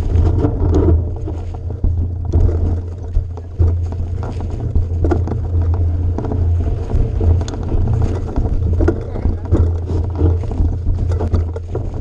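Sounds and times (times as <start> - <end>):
knocks and rattles: 0.0 - 12.0.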